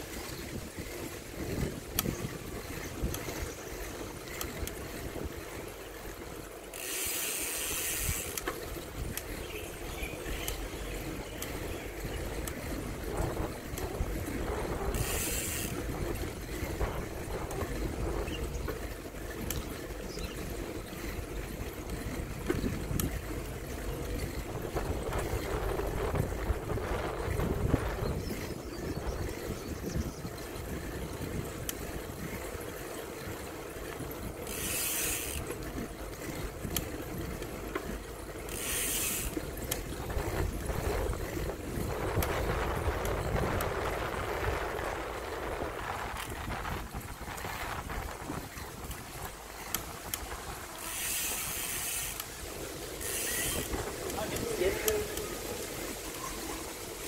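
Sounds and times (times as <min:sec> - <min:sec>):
bicycle rattling clicks: 0:00.0 - 0:57.0
bicycle tyres rumbling: 0:00.0 - 0:57.0.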